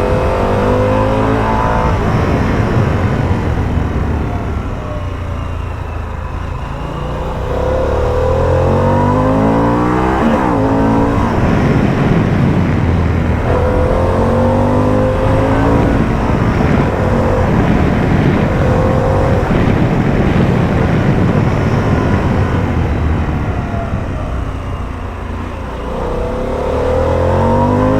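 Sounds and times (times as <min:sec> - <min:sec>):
motorcycle engine accelerating: 0:00.0 - 0:27.9
wind and road noise: 0:00.0 - 0:27.9.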